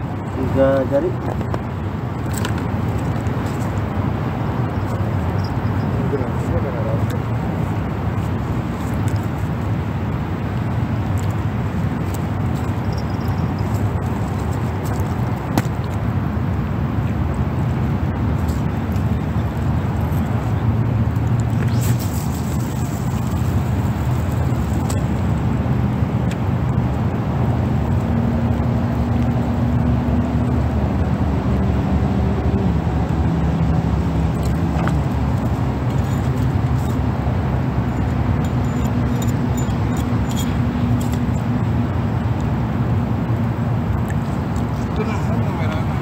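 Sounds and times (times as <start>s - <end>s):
engine hum: 0.0s - 46.0s
motor traffic rumble: 0.0s - 46.0s.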